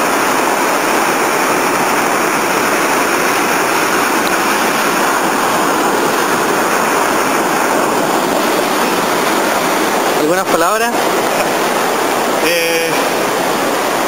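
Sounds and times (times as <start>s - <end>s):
surf breaking over rocks: 0.0s - 14.0s.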